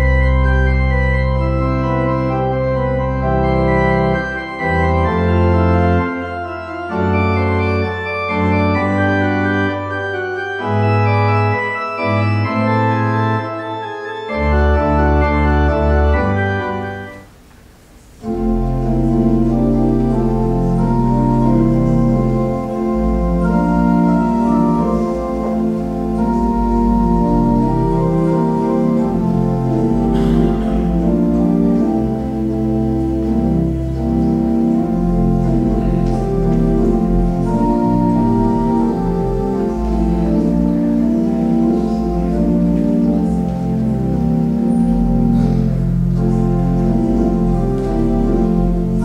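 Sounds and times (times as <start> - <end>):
organ playing sustained chords: 0.0 - 49.0.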